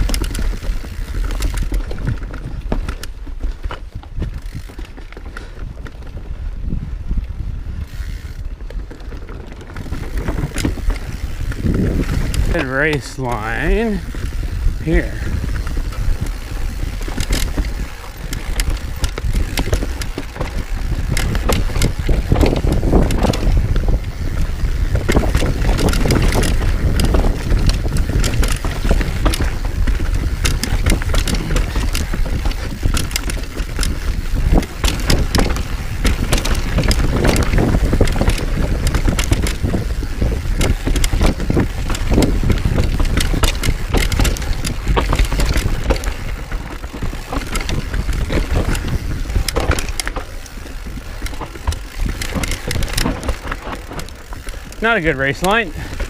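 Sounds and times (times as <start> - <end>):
bike rattling and knocking: 0.0 - 56.0
wind buffeting microphone: 0.0 - 56.0.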